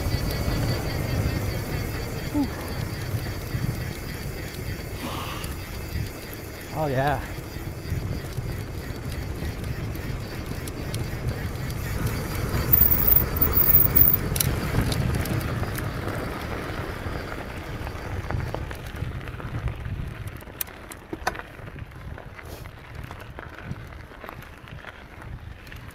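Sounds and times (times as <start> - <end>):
bike tyres rolling over gravel: 0.0 - 25.9
gravel crunches: 0.0 - 25.9.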